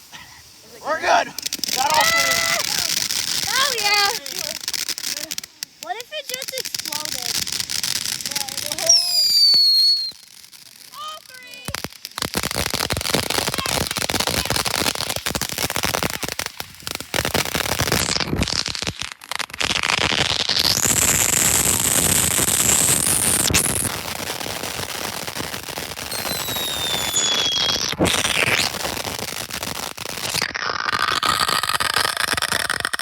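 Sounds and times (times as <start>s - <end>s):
firework bangs and crackling: 0.0s - 33.0s
firework whistles: 0.0s - 33.0s.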